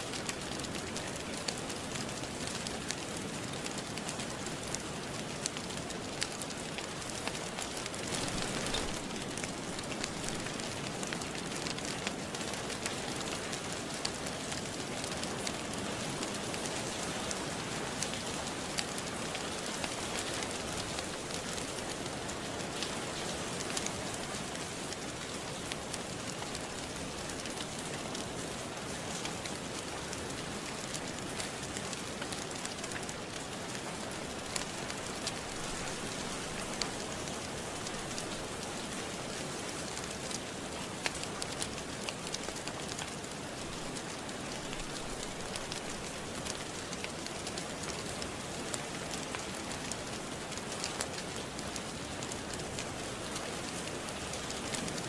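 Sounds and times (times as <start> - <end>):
rain hiss: 0.0 - 55.0
wood fire crackling: 0.1 - 55.0.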